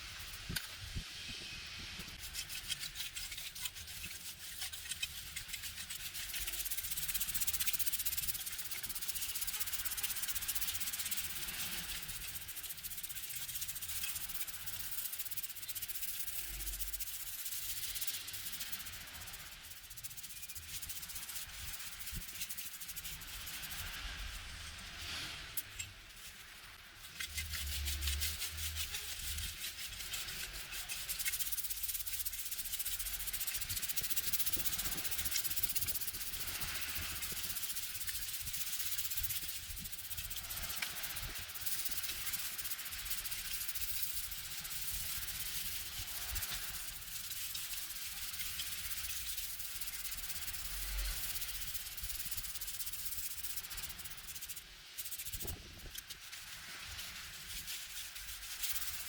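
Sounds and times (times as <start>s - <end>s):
scratchy scrubbing on hard surface: 2.0s - 59.0s.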